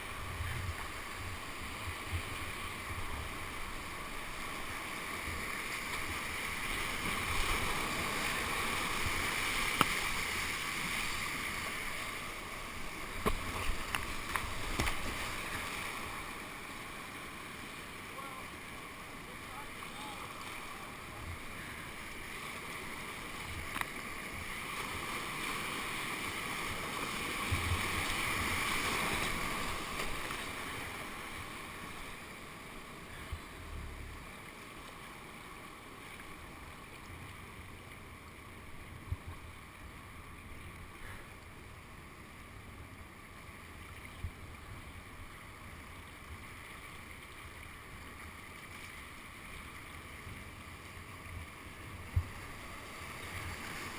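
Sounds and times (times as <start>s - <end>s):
rushing whitewater: 0.0s - 53.9s.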